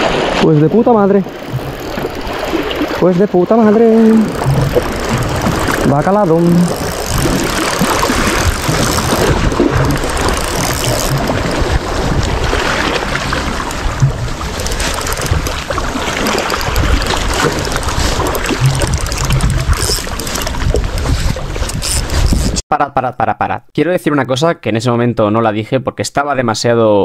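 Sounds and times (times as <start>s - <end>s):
sea washing against rocks: 0.0s - 22.6s
wind rumbling on microphone: 0.0s - 22.6s.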